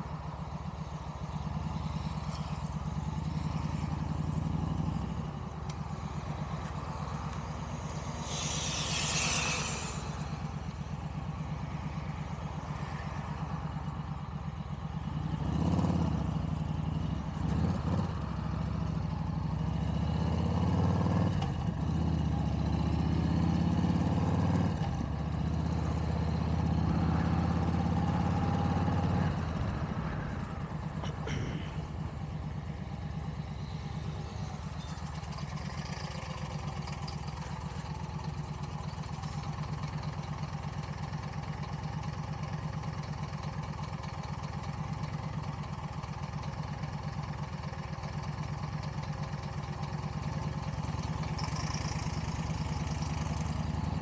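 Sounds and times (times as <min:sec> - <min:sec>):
motorcycle engine idling: 0:00.0 - 0:23.9, 0:24.7 - 0:54.0.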